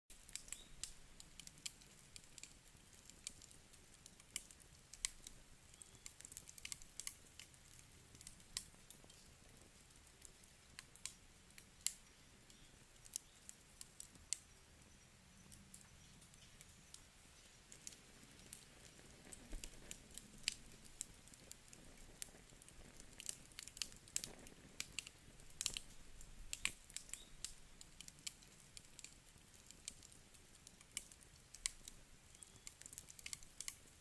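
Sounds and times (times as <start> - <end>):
campfire crackling: 0.1 - 34.0.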